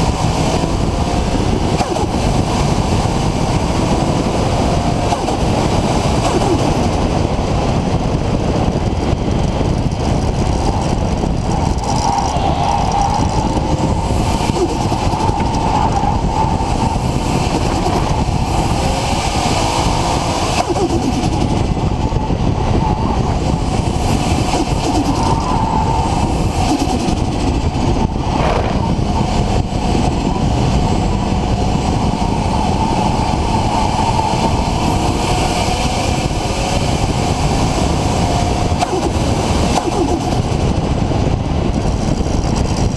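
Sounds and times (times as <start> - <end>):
car engine running: 0.0 - 42.9
road noise: 0.0 - 42.9.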